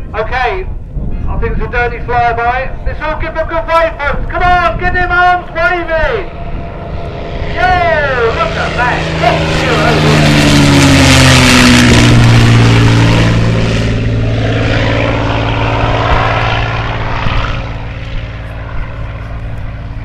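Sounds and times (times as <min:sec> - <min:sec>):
propeller plane flying past: 0:00.0 - 0:20.0.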